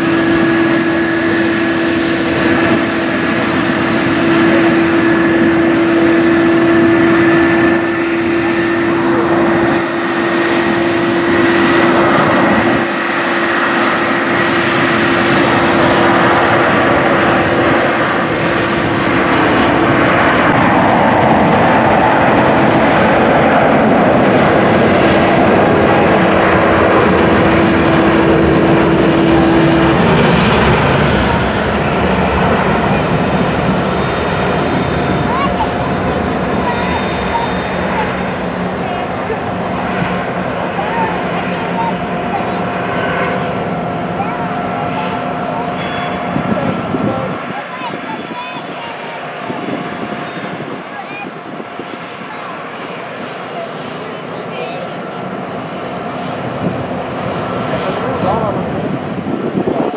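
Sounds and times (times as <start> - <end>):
jet engine whine: 0.0 - 59.9
jet engines roaring: 0.0 - 59.9.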